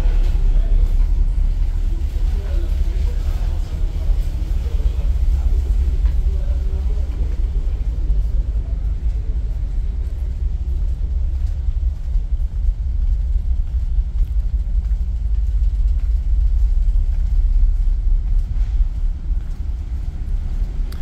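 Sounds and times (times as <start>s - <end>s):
ferry engines rumbling: 0.0s - 21.0s.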